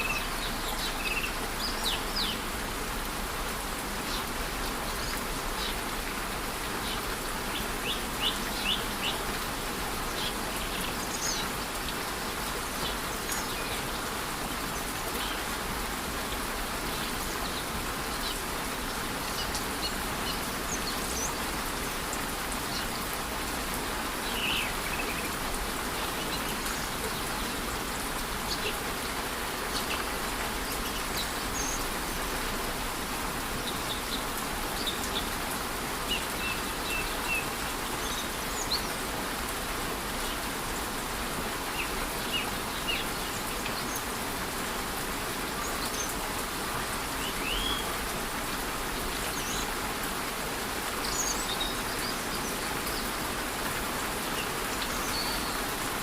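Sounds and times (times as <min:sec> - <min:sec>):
light rain: 0:00.0 - 0:56.0.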